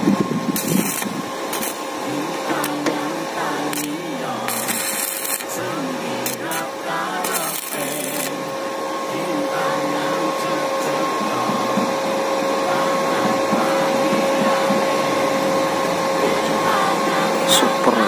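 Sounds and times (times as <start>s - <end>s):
welding arc crackle: 0.0s - 17.6s
high whine: 0.0s - 18.0s
welding machine hum: 0.0s - 18.0s.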